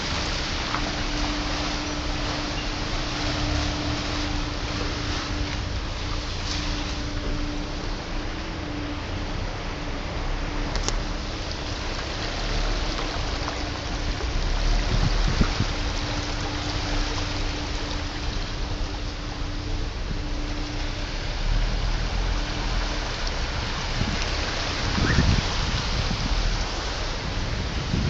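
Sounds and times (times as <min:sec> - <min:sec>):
heavy rain: 0:00.0 - 0:28.0
water rushing: 0:00.0 - 0:28.0.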